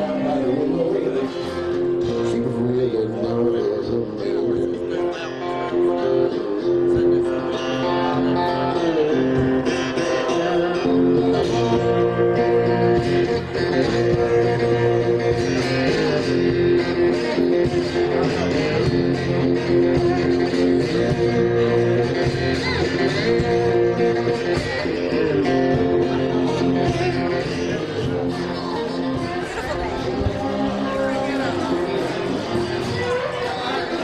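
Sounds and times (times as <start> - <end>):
blues guitar playing: 0.0 - 34.0.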